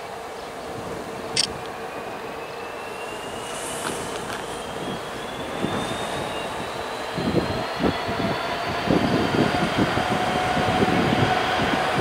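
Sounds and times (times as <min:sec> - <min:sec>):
thin rising whine: 0:00.0 - 0:12.0
train running along line: 0:00.0 - 0:12.0.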